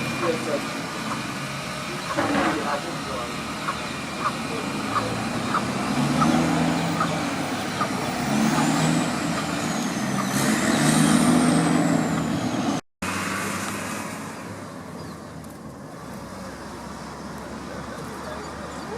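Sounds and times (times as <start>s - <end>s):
large vehicle engine droning: 0.0s - 18.9s.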